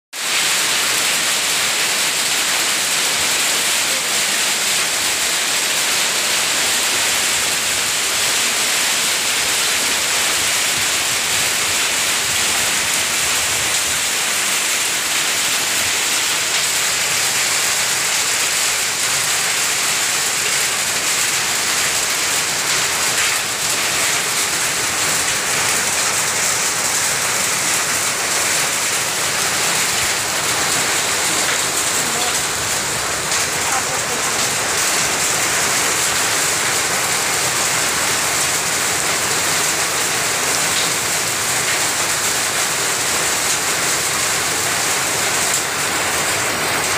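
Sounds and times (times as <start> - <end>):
heavy rain and hail on tin roofs: 0.1 - 46.9.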